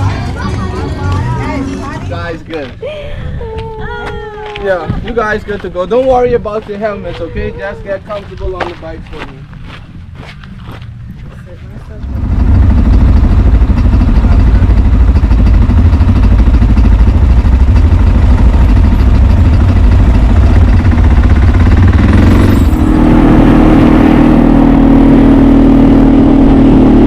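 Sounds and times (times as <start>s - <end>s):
atv engine rumbling: 0.0s - 27.0s.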